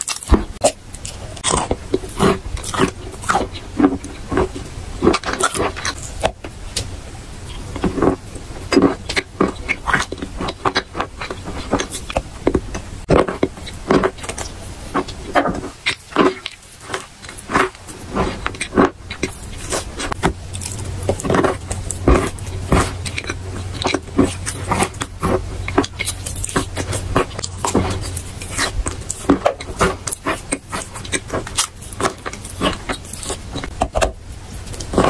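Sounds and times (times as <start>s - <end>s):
chalk crunching being chewed: 0.0s - 35.0s.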